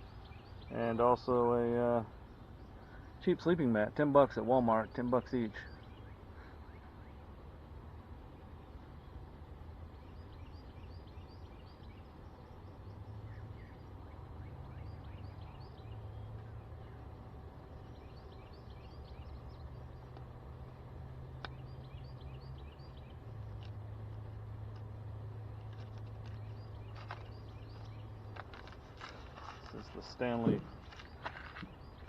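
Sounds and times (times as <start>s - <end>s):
songbird singing: 0.0s - 32.0s
steady low hum: 0.0s - 32.0s.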